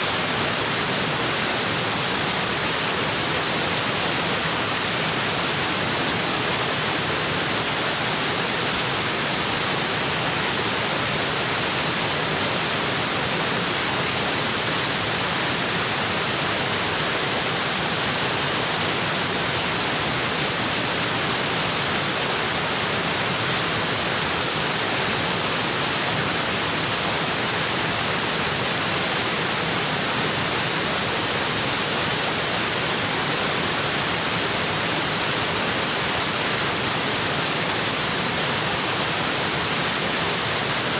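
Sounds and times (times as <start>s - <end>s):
waterfall splashing over rocks: 0.0s - 40.9s.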